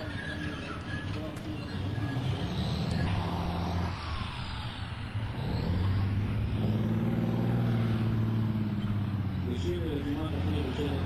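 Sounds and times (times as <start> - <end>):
heavy vehicle engine humming: 0.0 - 11.0.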